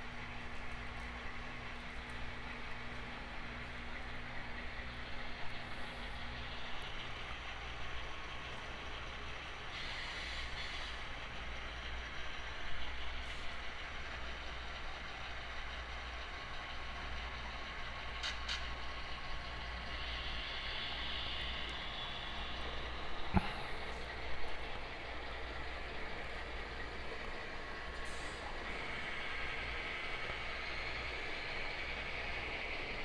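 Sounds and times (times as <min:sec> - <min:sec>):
model train running on track: 0:00.0 - 0:33.0.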